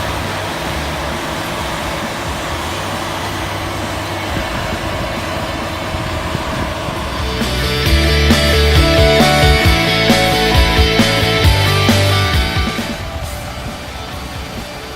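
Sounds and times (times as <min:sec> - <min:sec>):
combine harvester droning: 0:00.0 - 0:14.9.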